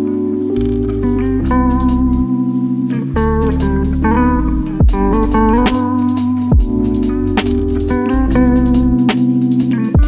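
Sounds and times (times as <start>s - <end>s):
guitar-led instrumental song: 0.0s - 10.0s.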